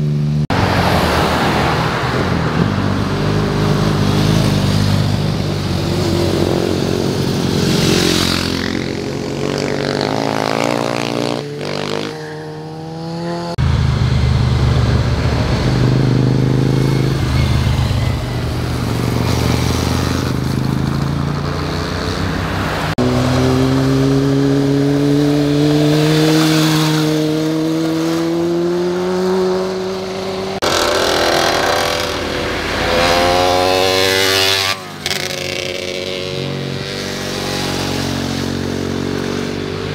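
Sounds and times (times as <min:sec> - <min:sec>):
motorcycles passing: 0:00.0 - 0:39.9.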